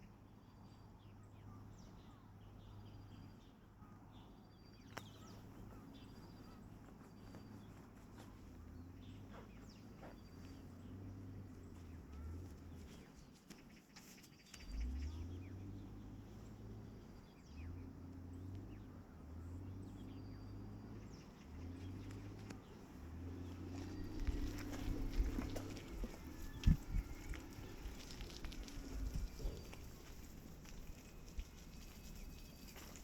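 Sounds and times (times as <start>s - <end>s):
low uneven rumble: 5.1s - 13.3s, 14.6s - 33.0s.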